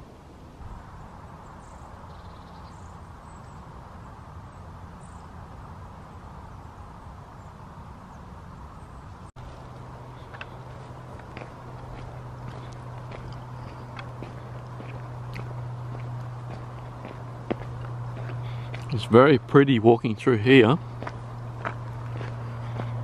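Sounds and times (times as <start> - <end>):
low outdoor rumble: 0.0 - 23.0
steady low hum: 0.0 - 23.0.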